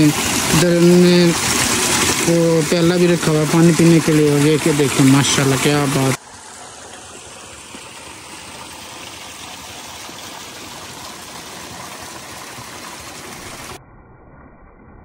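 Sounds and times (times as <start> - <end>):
spring water flowing: 0.0 - 13.8.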